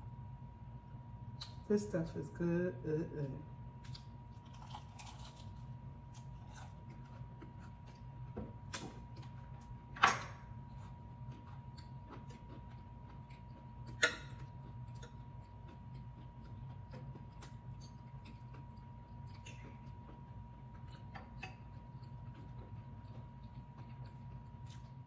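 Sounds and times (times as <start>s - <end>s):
chewing with mouth clicks: 3.8s - 9.7s, 10.6s - 25.0s.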